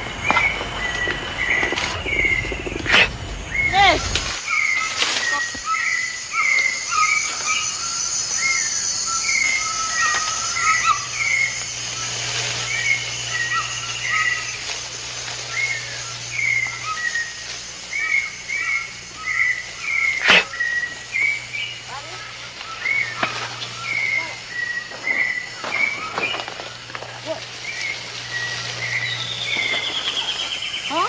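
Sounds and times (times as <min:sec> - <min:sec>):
birds chirping: 0:00.0 - 0:31.0
steady high buzz: 0:00.0 - 0:31.0.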